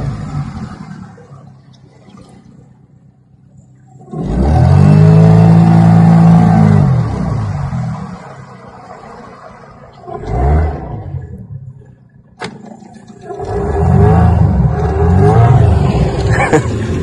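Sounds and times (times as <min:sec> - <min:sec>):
boat motor revving: 0:00.0 - 0:01.6, 0:03.9 - 0:17.0.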